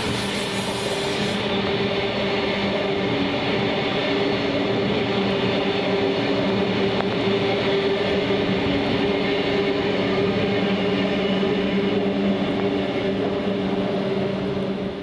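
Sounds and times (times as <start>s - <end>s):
electric train hum: 0.0s - 15.0s
train wheels on track: 0.0s - 15.0s.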